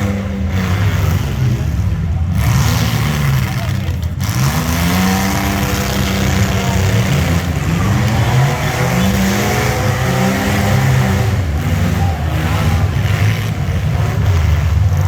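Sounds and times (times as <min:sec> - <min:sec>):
racing vehicle engines revving: 0:00.0 - 0:15.0.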